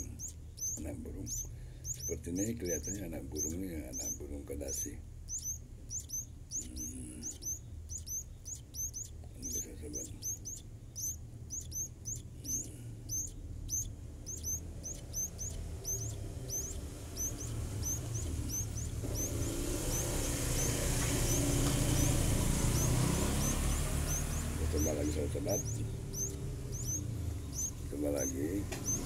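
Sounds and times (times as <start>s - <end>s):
small bird chirping: 0.0s - 29.0s.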